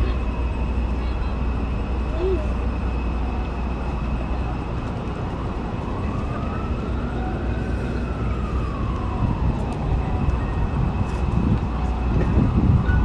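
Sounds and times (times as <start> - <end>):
city traffic rumble: 0.0 - 13.0
distant siren wailing: 0.0 - 13.0.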